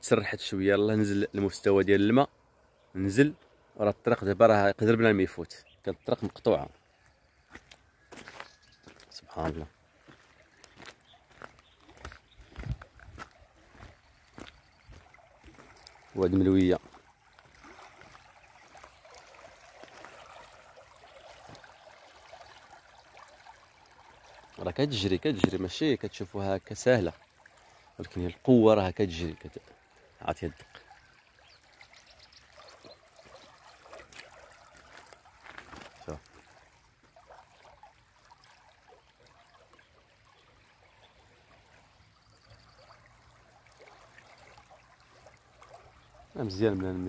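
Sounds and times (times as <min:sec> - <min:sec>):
floodwater rushing in river: 0:00.0 - 0:47.0
small water splashes: 0:05.2 - 0:47.0.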